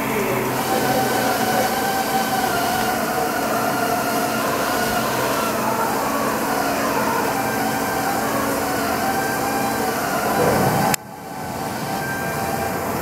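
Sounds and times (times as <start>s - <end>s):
machining center humming and whining: 0.0s - 13.0s.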